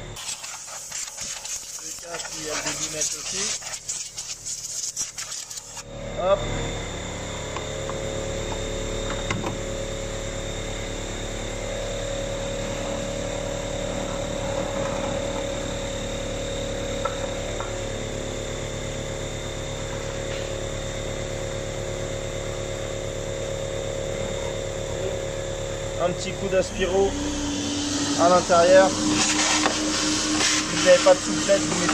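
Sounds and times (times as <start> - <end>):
vacuum cleaner whining: 0.0 - 31.9.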